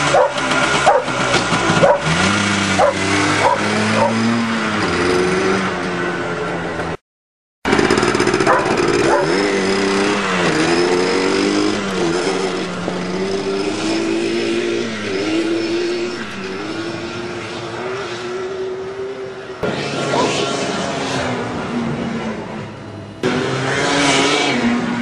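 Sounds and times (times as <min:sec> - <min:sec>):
two-stroke engine revving: 0:00.0 - 0:07.0, 0:07.7 - 0:22.5, 0:23.2 - 0:25.0.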